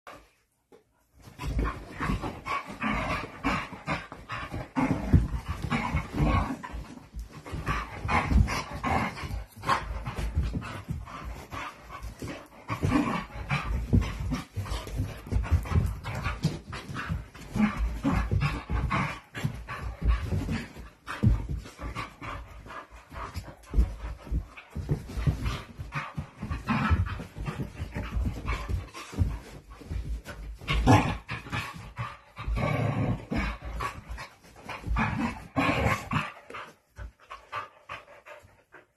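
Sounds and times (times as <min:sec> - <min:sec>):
dogs panting: 0:01.1 - 0:38.9
dogs scuffling on carpet: 0:01.1 - 0:38.9.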